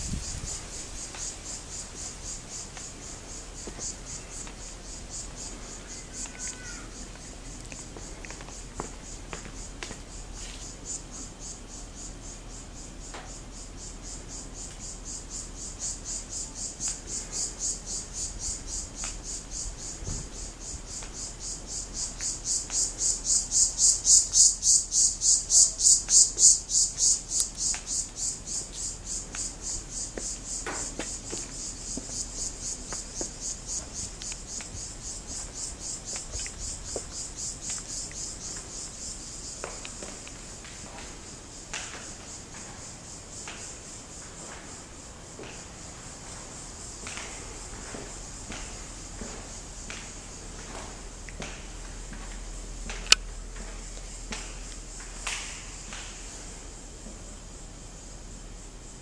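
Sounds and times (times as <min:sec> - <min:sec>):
insects pulsing buzz: 0:00.0 - 0:59.0.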